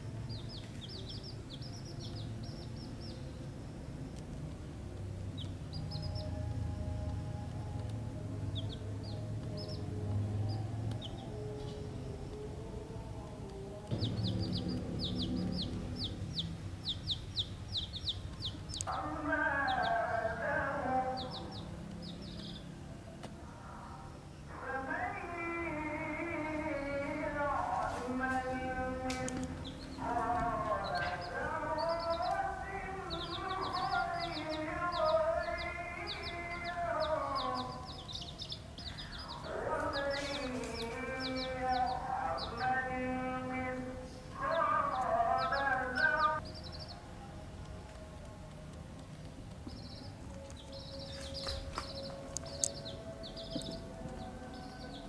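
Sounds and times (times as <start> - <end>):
chicks peeping: 0.0 - 23.4, 24.6 - 55.0
background music: 0.0 - 55.0.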